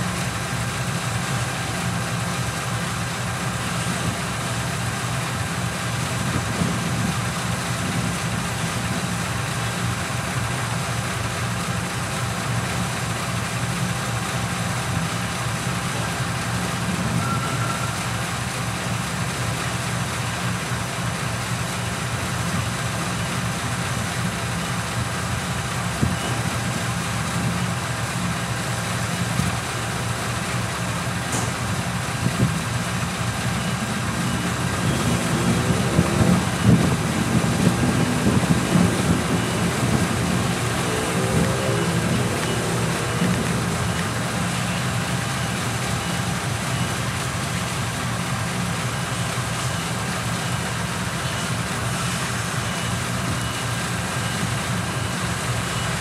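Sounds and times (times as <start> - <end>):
diesel locomotive engine idling: 0.0 - 56.0.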